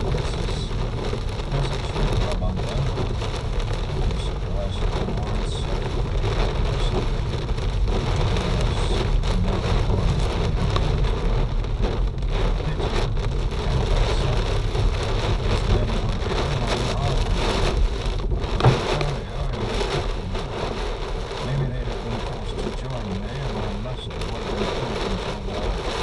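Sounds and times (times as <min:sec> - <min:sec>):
hail clattering on hard surfaces: 0:00.0 - 0:26.0
low rumble: 0:00.0 - 0:26.0.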